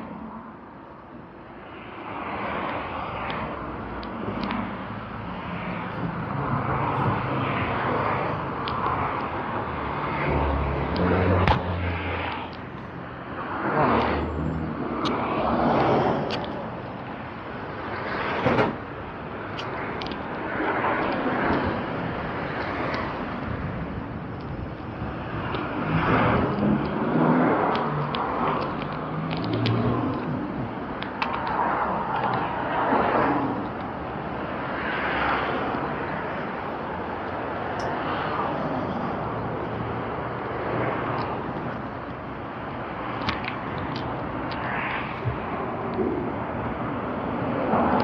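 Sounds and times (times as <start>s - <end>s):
road noise: 0.0s - 48.0s.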